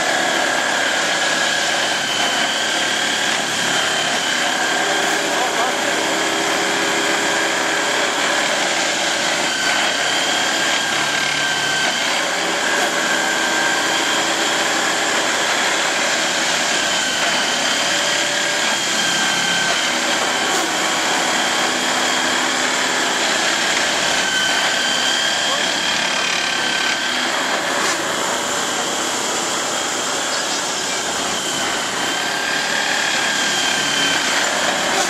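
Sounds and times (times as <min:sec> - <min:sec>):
track machine running with whine: 0:00.0 - 0:35.0.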